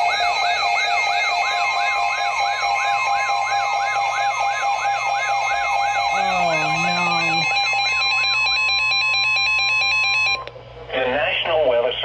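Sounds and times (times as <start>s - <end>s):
electronic warning siren: 0.0s - 10.4s.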